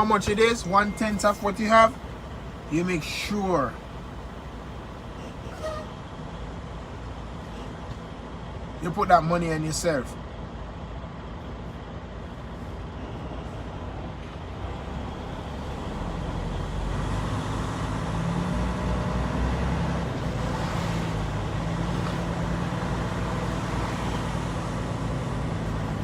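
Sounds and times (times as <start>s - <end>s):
road noise: 0.0s - 26.0s
truck diesel engine hum: 0.0s - 26.0s.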